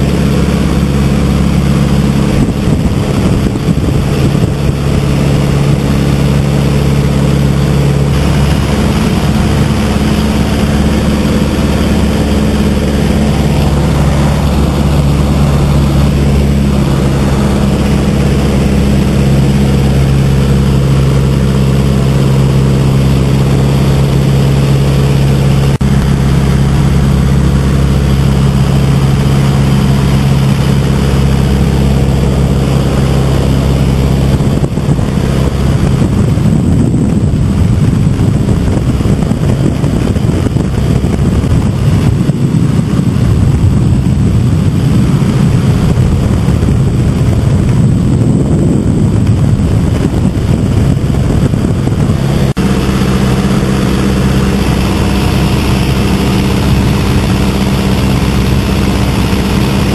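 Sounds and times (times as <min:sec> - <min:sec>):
biplane engine and propeller: 0:00.0 - 0:59.9
wind rush: 0:00.0 - 0:59.9.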